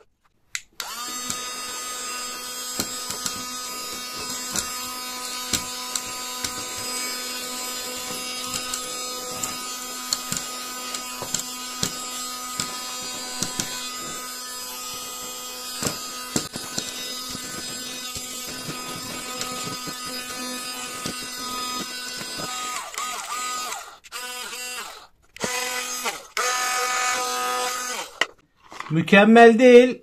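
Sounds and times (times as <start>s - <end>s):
cordless vacuum cleaner whining: 0.8s - 28.4s.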